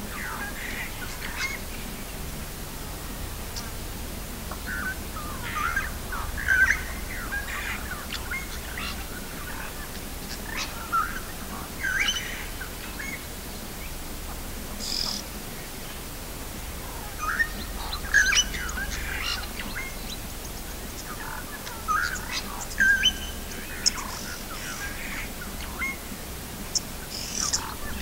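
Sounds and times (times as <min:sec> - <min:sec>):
birds chirping: 0:00.0 - 0:28.0
low steady hum: 0:00.0 - 0:28.0.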